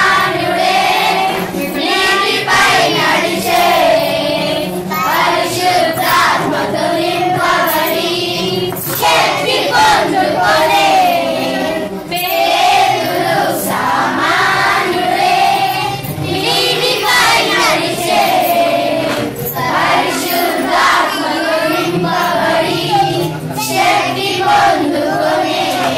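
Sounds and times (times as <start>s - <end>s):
children singing in unison: 0.0s - 25.9s.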